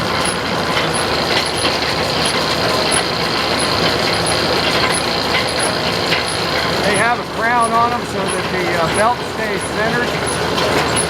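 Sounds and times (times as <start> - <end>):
round baler running: 0.0 - 11.0
tractor engine: 0.0 - 11.0.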